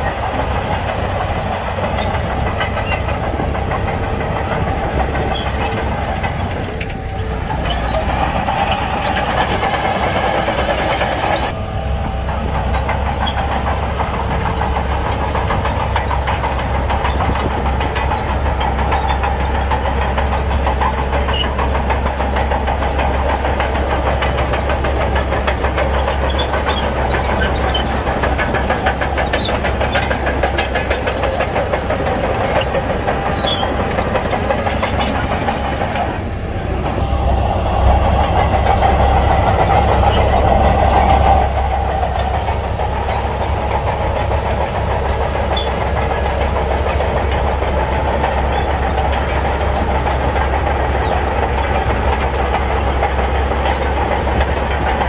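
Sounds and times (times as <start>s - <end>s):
bulldozer diesel engine under load: 0.0s - 55.0s
steel tracks clattering: 0.0s - 55.0s.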